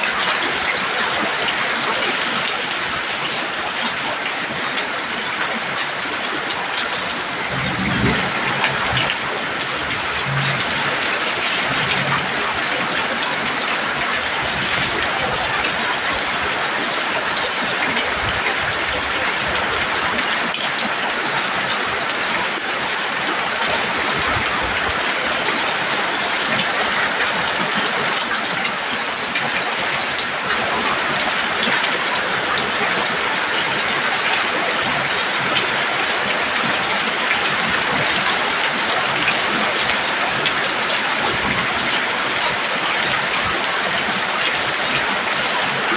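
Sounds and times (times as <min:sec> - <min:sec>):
heavy rain on a roof: 0:00.0 - 0:45.9.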